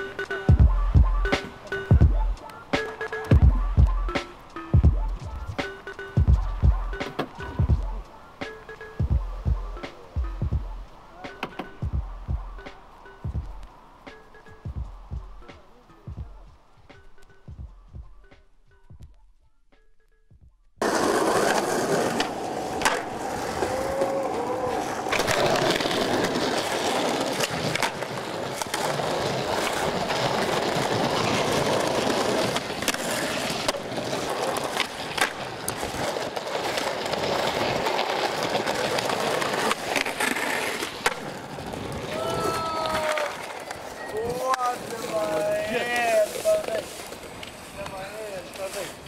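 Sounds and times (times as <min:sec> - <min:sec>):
skateboard clacks: 0:00.0 - 0:15.7, 0:20.8 - 0:48.7
skateboard wheels rolling on pavement: 0:00.0 - 0:19.2, 0:20.8 - 0:49.0.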